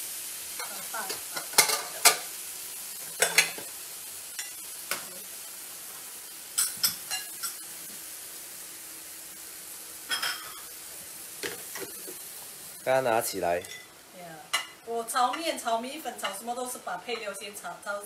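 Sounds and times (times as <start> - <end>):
seafood sizzling in a wok: 0.0 - 18.0.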